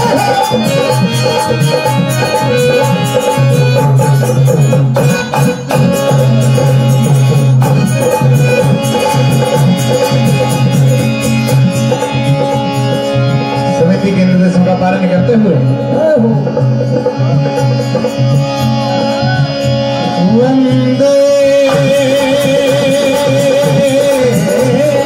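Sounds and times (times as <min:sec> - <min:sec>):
hand drums playing fast rhythm: 0:00.0 - 0:14.6, 0:15.6 - 0:25.0
harmonium chords: 0:00.0 - 0:25.0.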